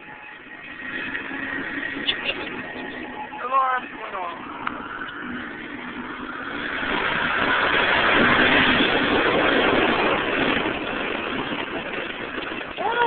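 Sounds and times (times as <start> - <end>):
loud car engine revving: 0.0 - 13.0.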